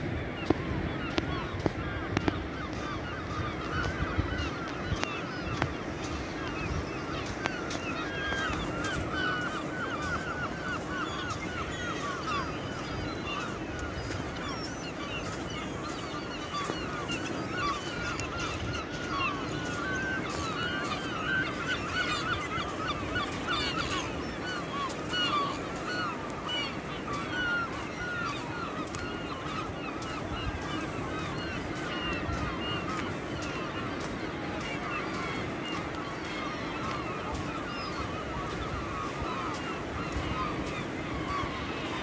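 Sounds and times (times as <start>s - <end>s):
flock of gulls calling: 0.0s - 42.0s.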